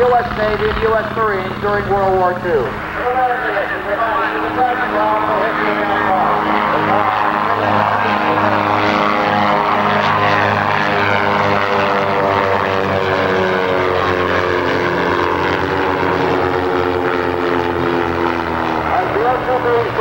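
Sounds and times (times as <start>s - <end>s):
propeller plane droning by: 0.0s - 20.0s.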